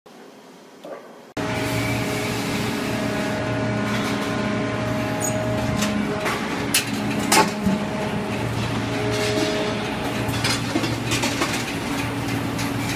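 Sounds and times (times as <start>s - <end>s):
factory machinery hum: 0.1s - 12.9s.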